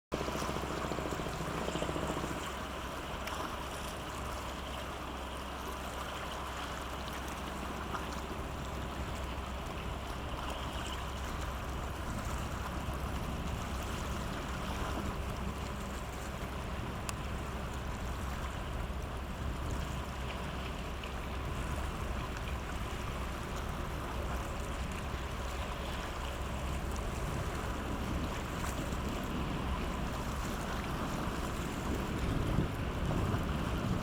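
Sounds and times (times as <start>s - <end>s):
water wash and lapping: 0.1s - 34.0s
ship diesel engine drone: 0.2s - 34.0s.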